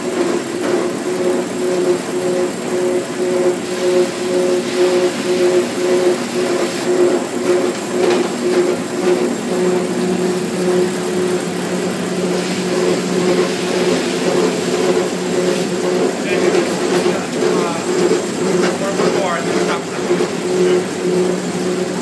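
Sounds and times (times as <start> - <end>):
machine motor humming: 0.0 - 22.0.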